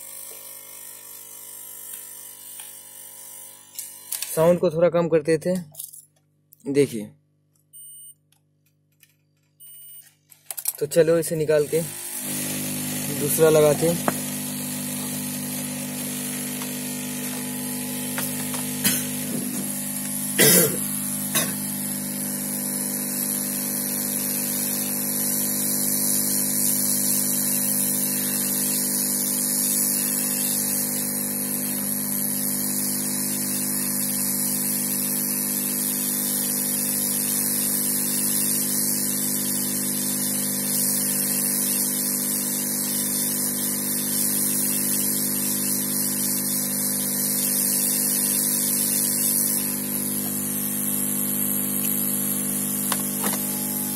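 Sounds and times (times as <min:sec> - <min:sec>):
hot-air blower hissing: 0:00.0 - 0:01.2, 0:11.0 - 0:53.9.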